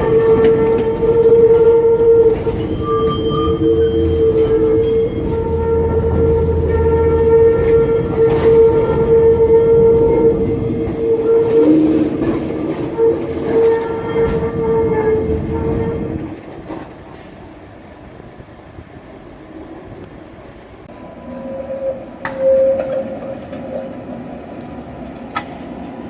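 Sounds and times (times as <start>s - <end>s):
tram wheels squealing on rails: 0.0s - 26.0s.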